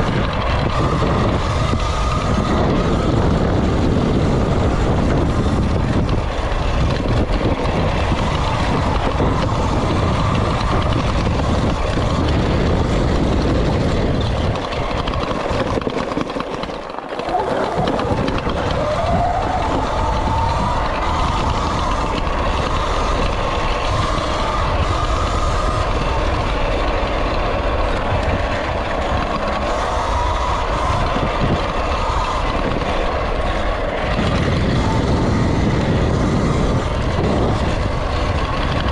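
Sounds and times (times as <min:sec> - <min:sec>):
bike rattling over ground: 0:00.0 - 0:38.9
electric motor and chain whine: 0:00.0 - 0:38.9
wind buffeting microphone: 0:00.0 - 0:38.9.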